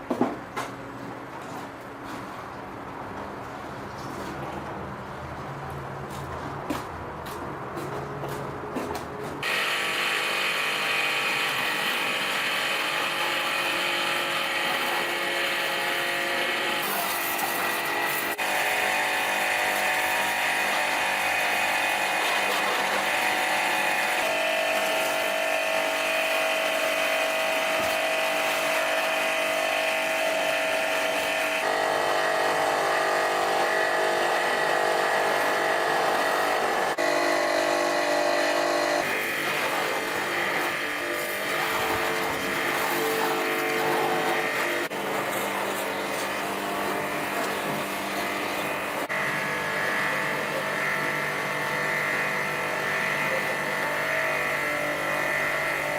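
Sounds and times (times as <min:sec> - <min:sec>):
power tool motor whining: 0:09.4 - 0:55.9.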